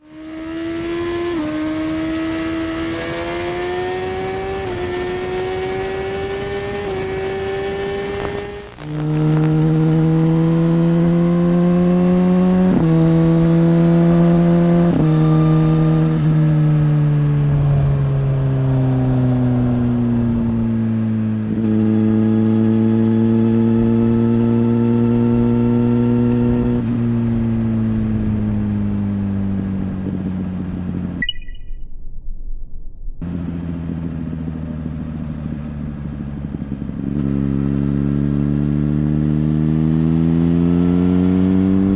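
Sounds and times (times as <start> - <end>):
motorcycle engine revving: 0.0 - 31.2, 33.2 - 41.9.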